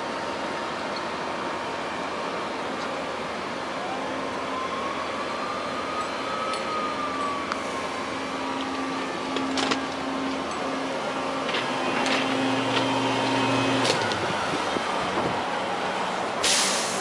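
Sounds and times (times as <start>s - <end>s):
crane running: 0.0s - 17.0s.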